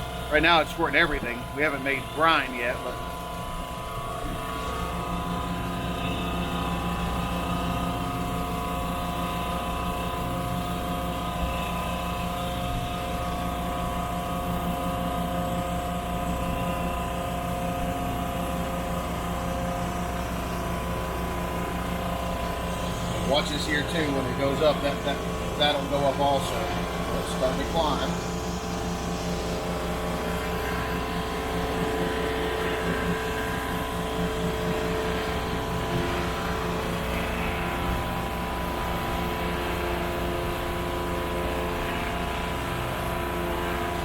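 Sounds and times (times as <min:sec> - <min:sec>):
pump machine hum: 0:00.0 - 0:44.0.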